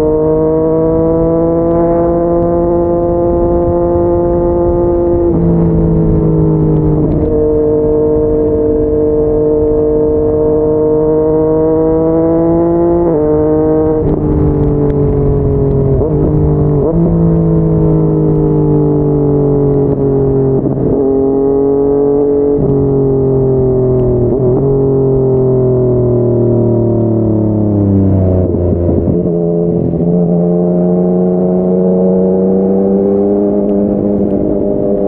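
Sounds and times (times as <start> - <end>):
motorcycle engine running hard: 0.0 - 35.0.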